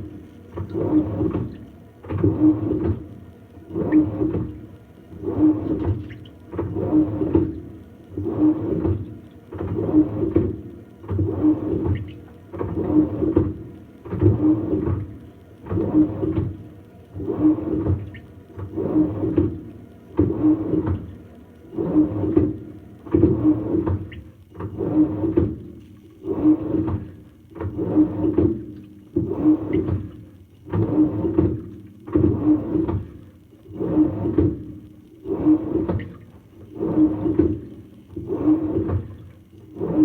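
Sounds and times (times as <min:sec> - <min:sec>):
water and laundry sloshing: 0:00.0 - 0:40.0.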